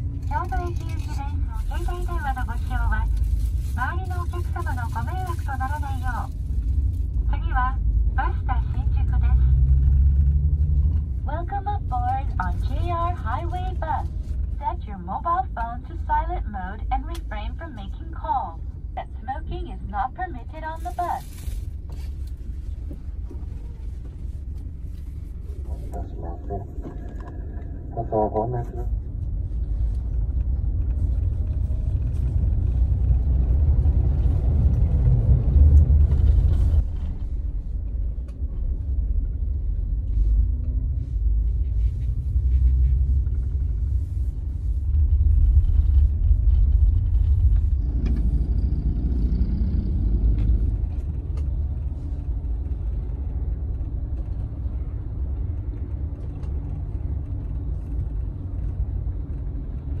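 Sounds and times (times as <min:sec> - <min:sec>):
bus engine rumble: 0:00.0 - 1:00.0.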